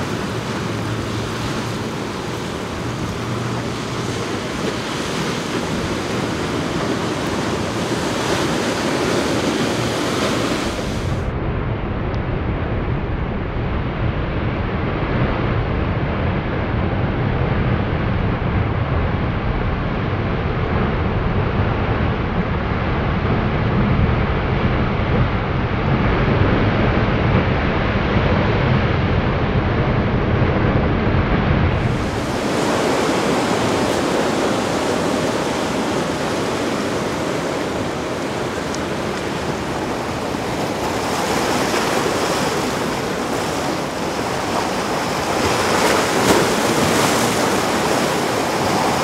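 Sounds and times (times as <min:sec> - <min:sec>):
surf and boat wake rushing: 0:00.0 - 0:49.0
wind buffeting microphone: 0:00.0 - 0:49.0.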